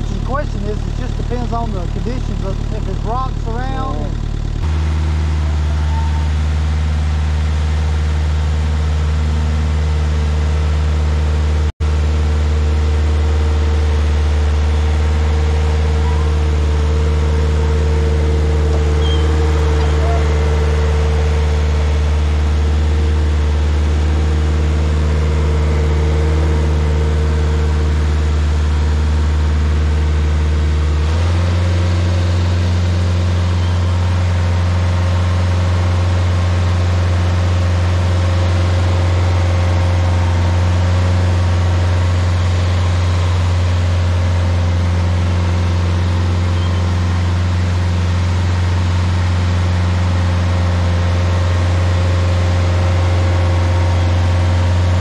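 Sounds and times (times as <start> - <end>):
stump grinder engine running: 0.0 - 55.0.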